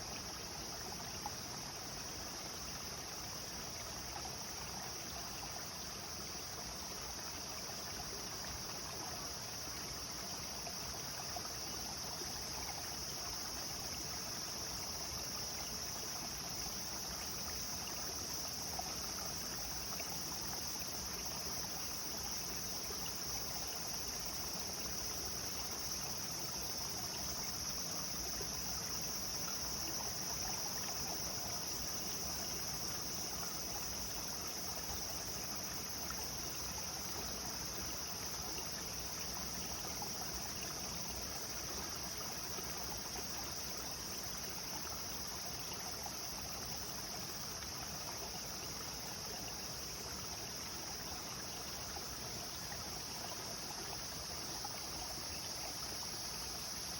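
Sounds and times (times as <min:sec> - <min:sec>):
high-pitched insect chorus: 0:00.0 - 0:56.9
stream running over rocks: 0:00.0 - 0:56.9.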